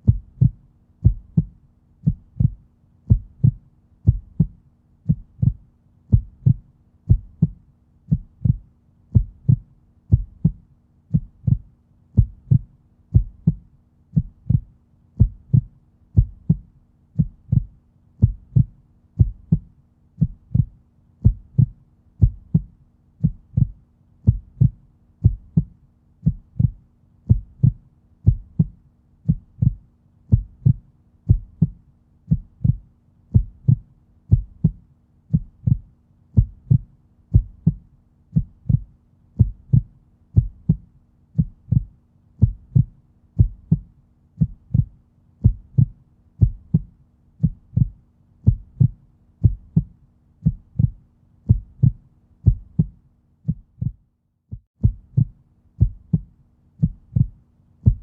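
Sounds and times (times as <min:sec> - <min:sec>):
faint steady hum: 0:00.0 - 0:54.0, 0:54.8 - 0:58.0
heartbeat thumps: 0:00.0 - 0:58.0.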